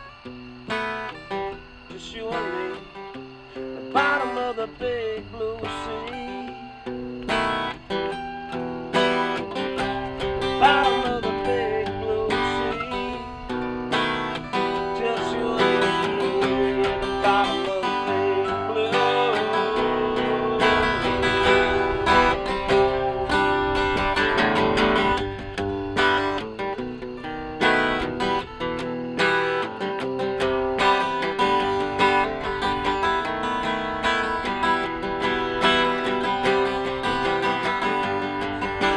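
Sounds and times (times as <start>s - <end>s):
acoustic guitars picked and strummed: 0.0s - 38.9s.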